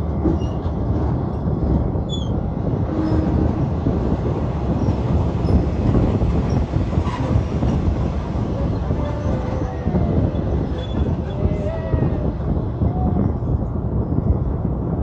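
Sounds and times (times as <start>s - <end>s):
train rumbling over bridge: 0.0s - 15.0s.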